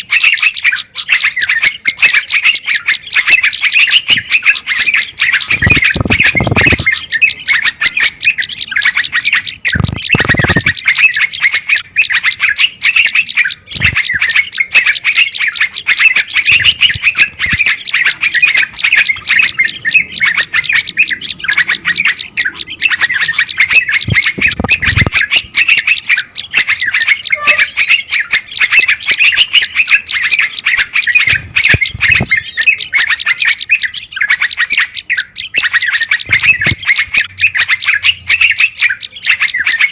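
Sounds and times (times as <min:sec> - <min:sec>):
songbirds chirping rapidly: 0:00.0 - 0:39.9.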